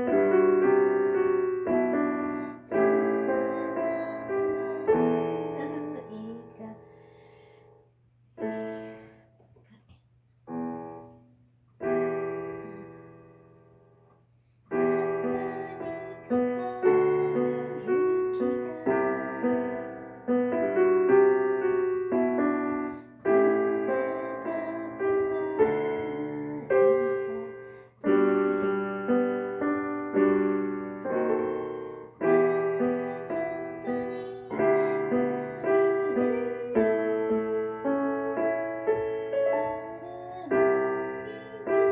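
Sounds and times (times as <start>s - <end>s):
slow piano chords: 0.0s - 9.4s, 10.4s - 41.9s.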